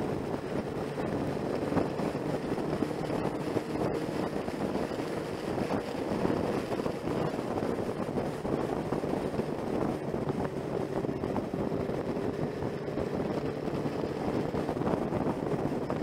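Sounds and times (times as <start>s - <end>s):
motorcycle engine cruising: 0.0s - 16.0s
wind rush on microphone: 0.0s - 16.0s.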